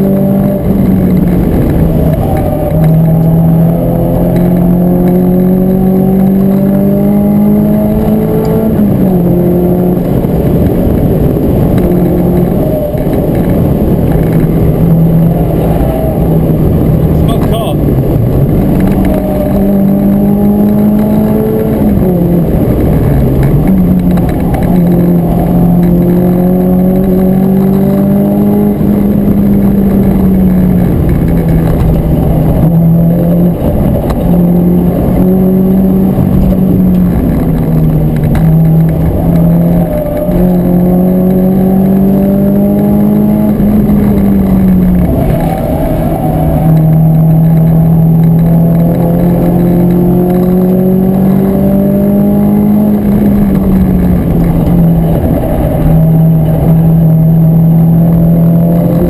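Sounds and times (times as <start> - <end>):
car engine revving through gears: 0.0 - 59.0
road and tyre noise: 0.0 - 59.0.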